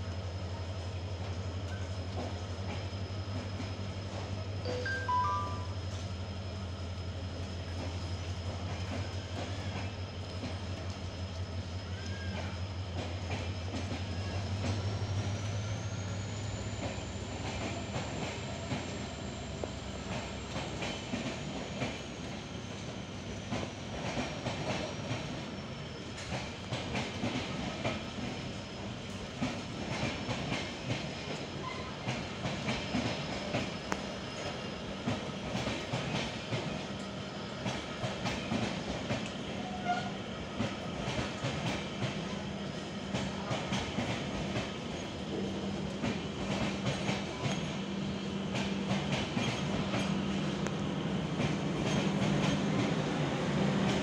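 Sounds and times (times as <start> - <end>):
diesel locomotive drone: 0.0 - 54.0.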